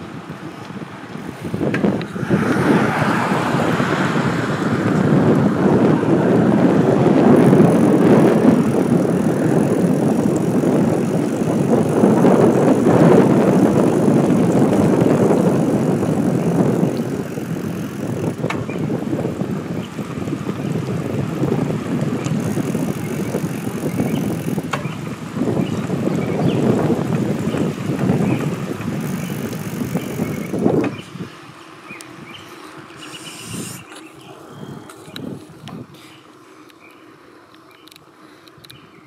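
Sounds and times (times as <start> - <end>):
wind rushing over microphone: 0.0 - 36.8
tyres on wet asphalt: 0.0 - 39.0.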